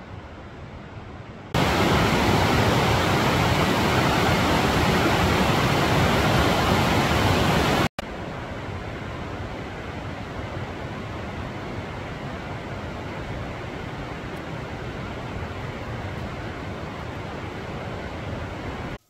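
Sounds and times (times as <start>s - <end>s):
quieter steady rushing noise: 0.0s - 19.0s
water rushing: 1.6s - 19.0s.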